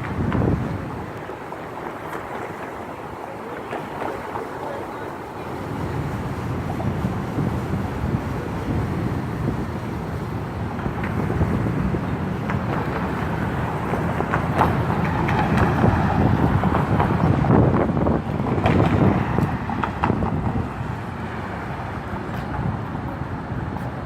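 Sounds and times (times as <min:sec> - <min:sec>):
traffic rumble: 0:00.0 - 0:24.0
wind buffeting microphone: 0:00.0 - 0:24.0.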